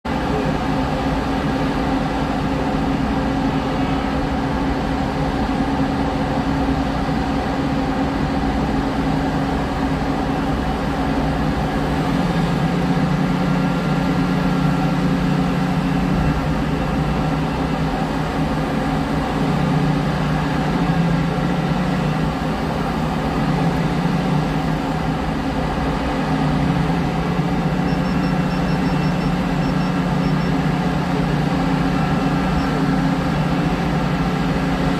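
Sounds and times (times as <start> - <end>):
diesel engine drone: 0.0 - 34.9
low hum: 0.1 - 34.9.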